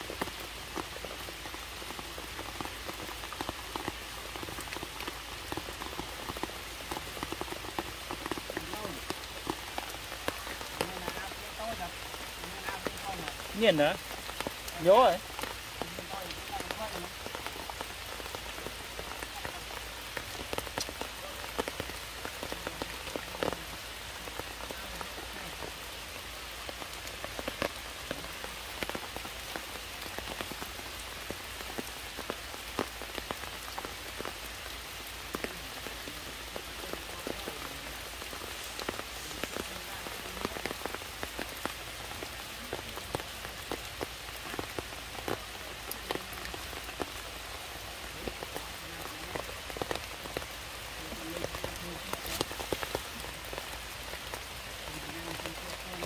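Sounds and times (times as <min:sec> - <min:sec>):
rain on leaves and stone: 0:00.0 - 0:56.0.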